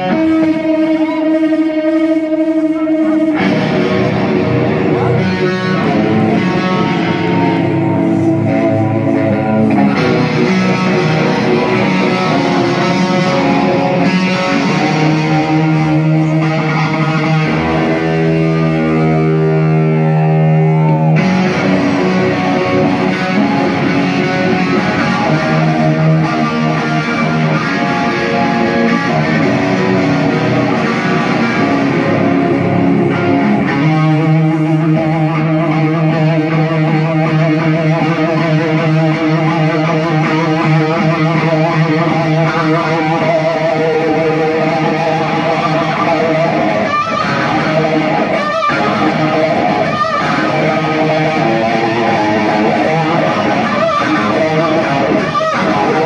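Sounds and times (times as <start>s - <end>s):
electric guitar solo: 0.0s - 56.0s.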